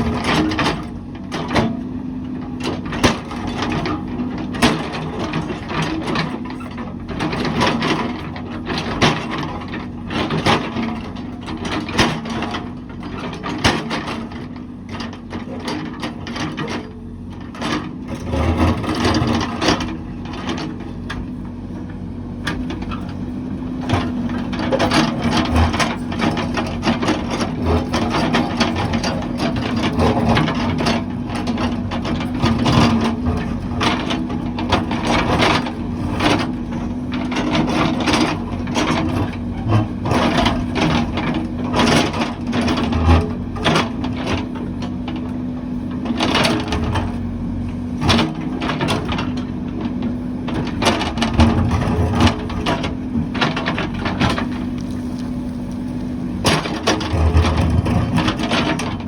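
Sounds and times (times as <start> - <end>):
construction machine engine hum: 0.0 - 59.0.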